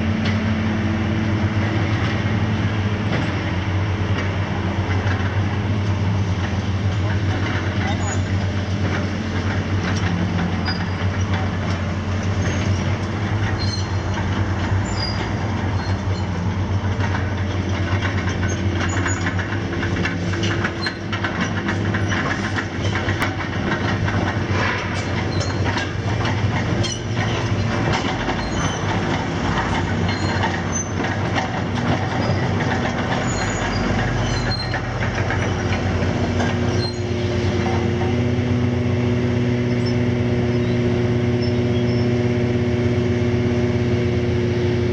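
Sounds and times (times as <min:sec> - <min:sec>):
diesel engine running: 0:00.0 - 0:44.9
crawler tracks clanking: 0:00.1 - 0:44.9.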